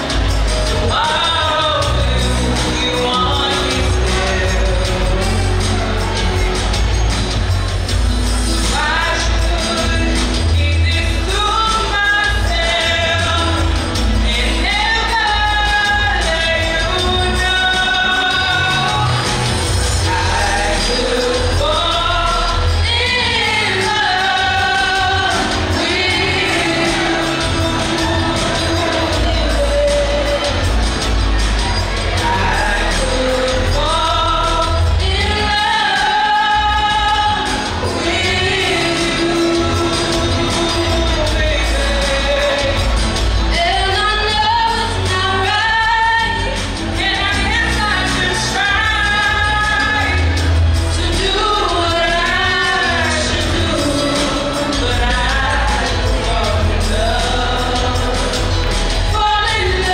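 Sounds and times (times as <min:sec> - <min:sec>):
instrumental backing with bass: 0:00.0 - 0:59.9
women singing into microphones: 0:00.0 - 0:59.9.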